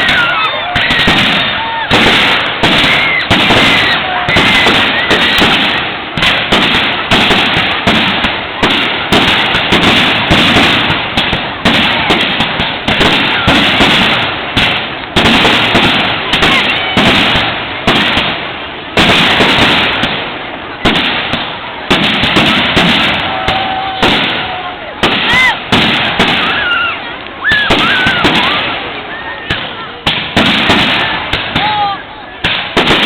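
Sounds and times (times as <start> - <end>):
fireworks bangs: 0.0 - 33.0
fireworks crackling: 0.0 - 33.0
fireworks whistles: 0.0 - 33.0.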